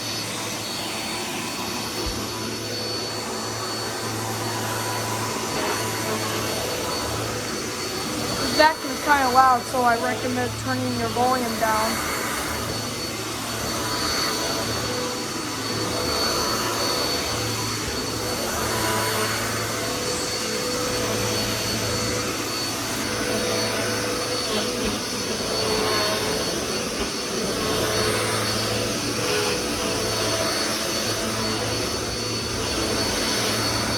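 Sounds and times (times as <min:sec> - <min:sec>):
vacuum cleaner motor whine: 0:00.0 - 0:33.9.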